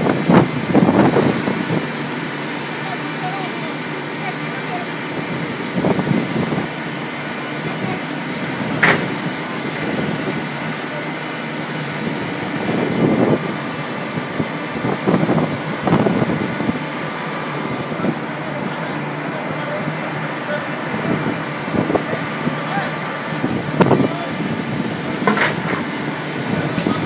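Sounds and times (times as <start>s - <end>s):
ship machinery drone: 0.0s - 27.0s.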